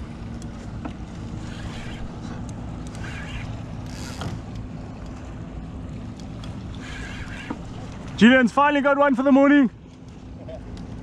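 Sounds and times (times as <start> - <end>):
open sea rumble: 0.0 - 11.0
water swishing against kayak: 0.0 - 11.0.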